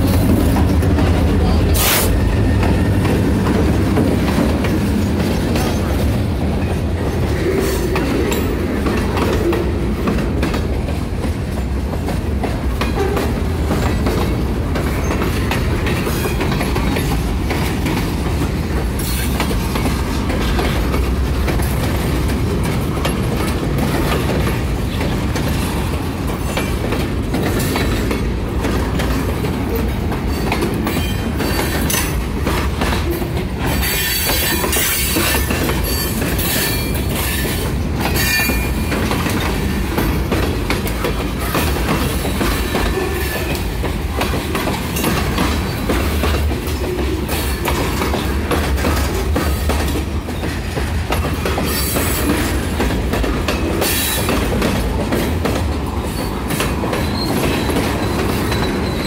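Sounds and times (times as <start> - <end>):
freight train rumbling past: 0.0 - 59.0
wheels clacking over track: 0.0 - 59.0.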